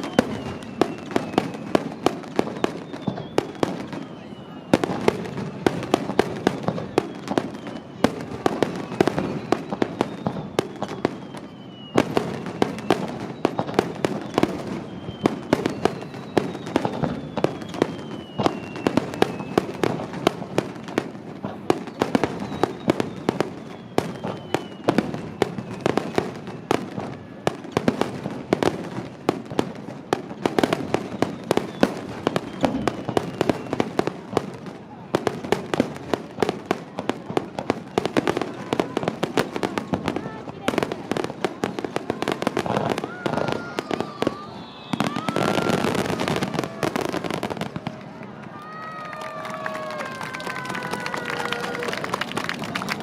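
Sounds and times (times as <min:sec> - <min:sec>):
fireworks bangs and crackling: 0:00.0 - 0:53.0
fireworks whistles gliding down: 0:00.0 - 0:53.0.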